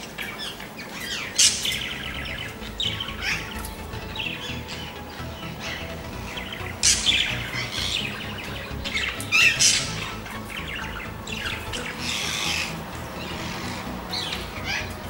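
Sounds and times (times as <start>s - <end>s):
background music: 0.0s - 15.0s
parrots squawking: 0.0s - 15.0s.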